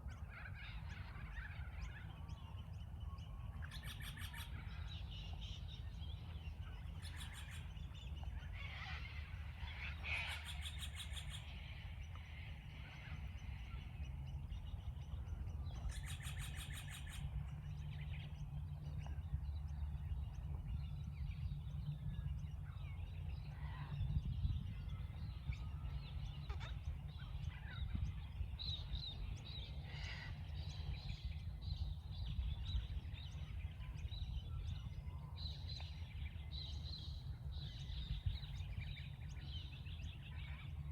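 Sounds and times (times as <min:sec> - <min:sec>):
birds chirping and calling: 0:00.0 - 0:40.9
low background rumble: 0:00.0 - 0:40.9.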